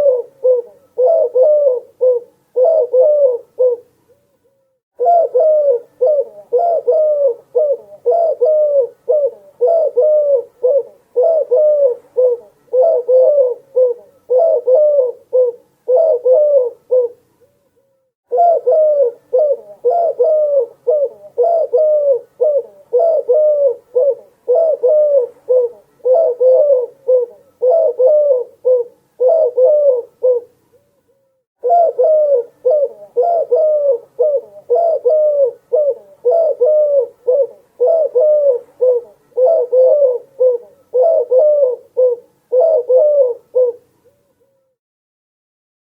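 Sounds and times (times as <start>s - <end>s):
dove cooing: 0.0s - 4.3s, 5.0s - 17.6s, 18.3s - 30.9s, 31.6s - 44.7s.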